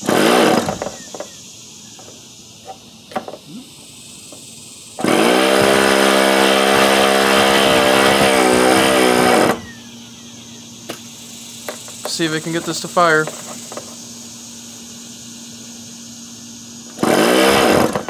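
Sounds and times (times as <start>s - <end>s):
electric starter motor whine: 0.0s - 18.0s.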